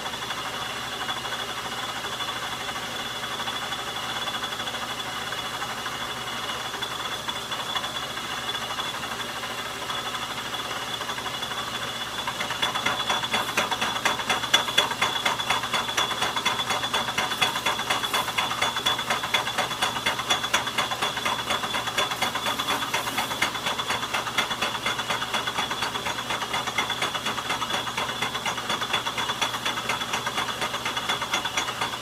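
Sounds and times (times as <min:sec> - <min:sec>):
metal lathe gear clatter and whine: 0:00.1 - 0:32.0.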